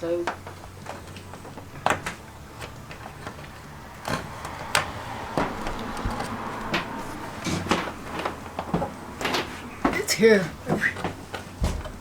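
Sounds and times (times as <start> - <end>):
cable knocking and rustling: 0.0 - 12.0.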